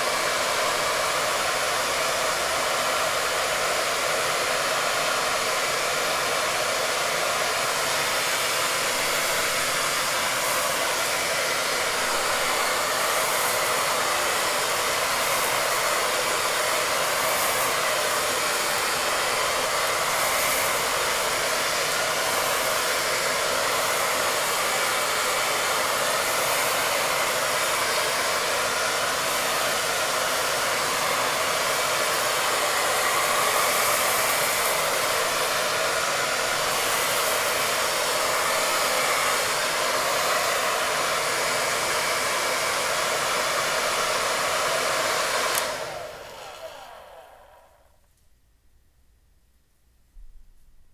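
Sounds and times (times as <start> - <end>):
hair dryer blowing: 0.0 - 48.1.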